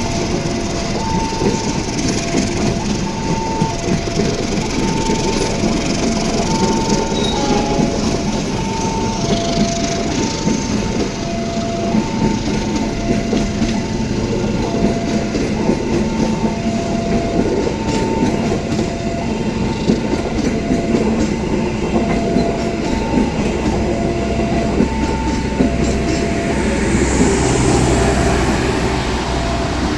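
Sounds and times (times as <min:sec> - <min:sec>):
train wheels clattering on rails: 0:00.0 - 0:29.9
two-tone level crossing alarm: 0:00.0 - 0:29.9.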